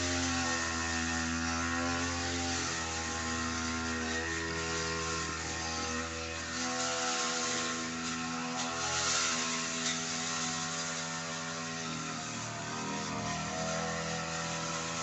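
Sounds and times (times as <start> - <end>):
brush cutter engine cutting grass: 0.0 - 15.0.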